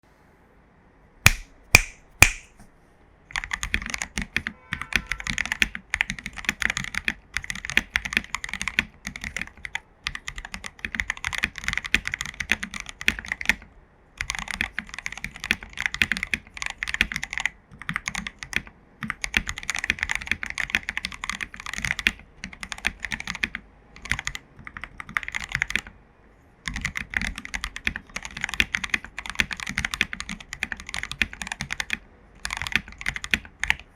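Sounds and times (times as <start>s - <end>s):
typing on mechanical keyboard: 3.3s - 25.9s, 26.6s - 33.9s.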